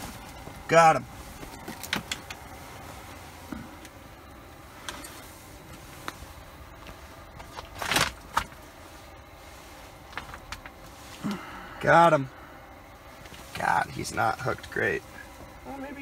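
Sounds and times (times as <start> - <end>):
rustling of clothing and line: 0.0 - 16.0
steady low hiss: 0.0 - 16.0.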